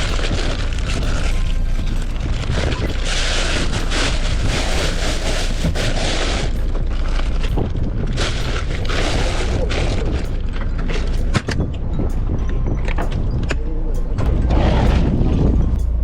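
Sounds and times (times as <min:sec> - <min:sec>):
boat engine rumbling: 0:00.0 - 0:16.0
wind buffeting microphone: 0:00.0 - 0:16.0.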